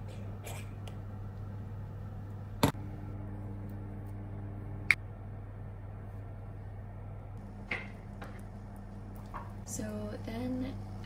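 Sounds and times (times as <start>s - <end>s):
induction hob humming: 0.0s - 11.0s.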